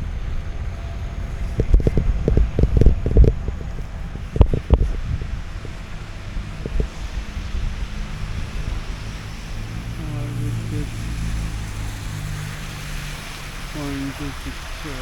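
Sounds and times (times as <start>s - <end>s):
vehicle engine humming: 0.0s - 15.0s
wind on microphone: 0.0s - 15.0s.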